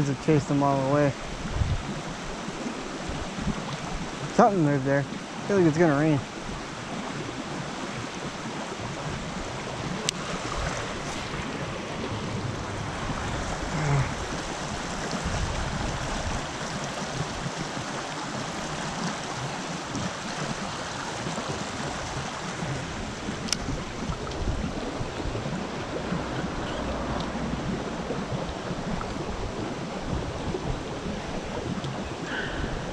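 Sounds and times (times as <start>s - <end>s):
wind on microphone: 0.0s - 4.4s, 6.1s - 32.9s
creek water flowing: 0.0s - 32.9s.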